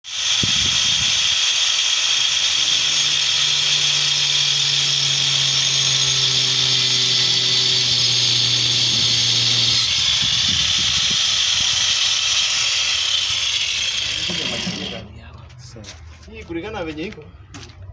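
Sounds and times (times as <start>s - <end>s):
power tool whining on wood: 0.0s - 15.1s.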